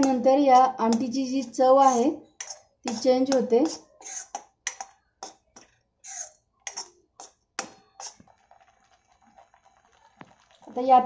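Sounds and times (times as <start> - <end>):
steel spoon scraping a pan: 0.0 - 9.8.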